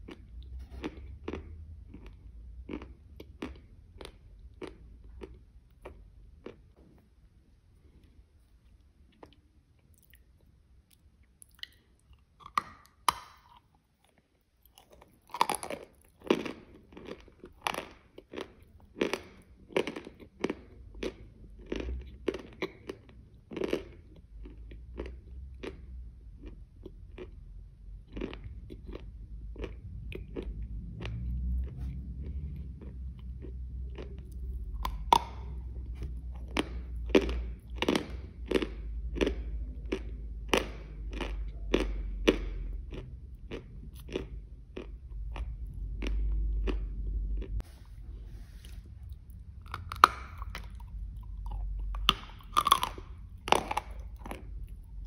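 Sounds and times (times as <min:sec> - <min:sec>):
crunchy chewing: 0:00.0 - 0:07.1, 0:07.8 - 0:27.4, 0:28.0 - 0:47.8, 0:48.5 - 0:55.0.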